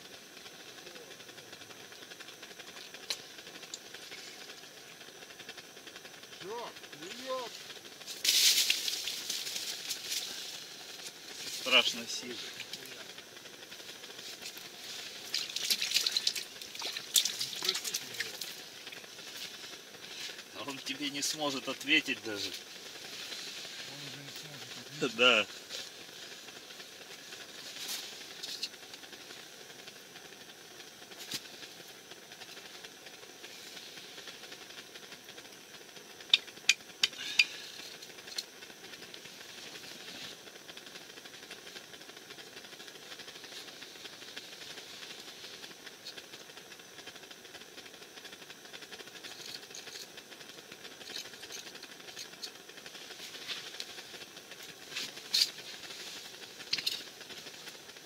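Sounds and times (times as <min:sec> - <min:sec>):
gas burner hissing: 0:00.0 - 0:58.0.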